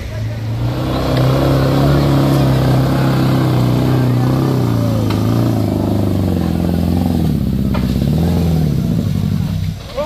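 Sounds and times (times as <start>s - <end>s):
diesel engine straining: 0.0s - 10.0s.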